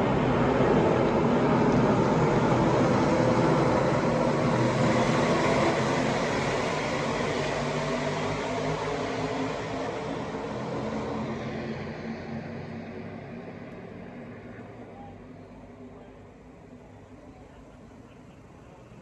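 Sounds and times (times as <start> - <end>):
race truck engines running hard: 0.0 - 19.0.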